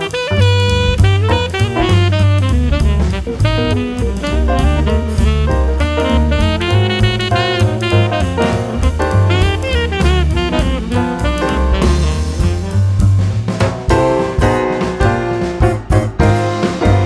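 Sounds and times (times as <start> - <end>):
upbeat jazz music: 0.0 - 17.0.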